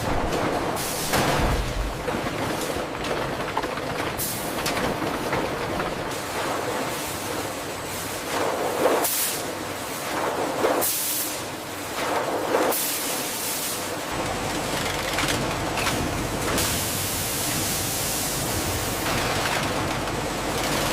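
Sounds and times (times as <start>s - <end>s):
factory machinery running: 0.0s - 20.9s.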